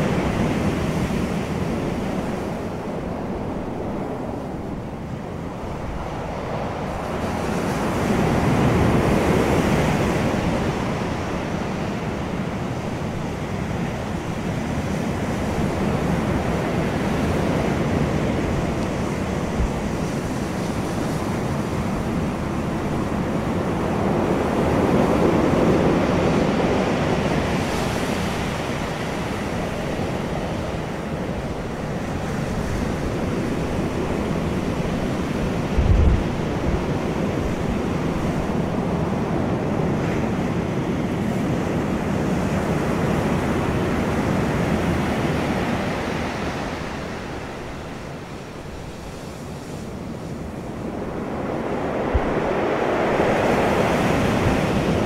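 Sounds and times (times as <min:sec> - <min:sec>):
waves on a pebble beach: 0:05.6 - 0:55.0.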